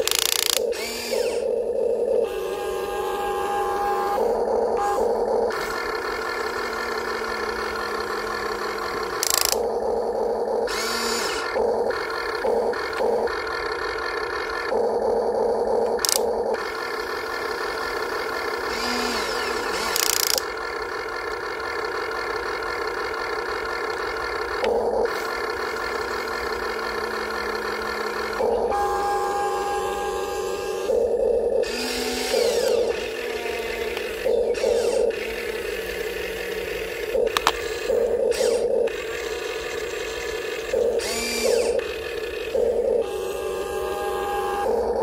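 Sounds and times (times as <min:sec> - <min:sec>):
model excavator motors whining: 0:00.0 - 0:45.0.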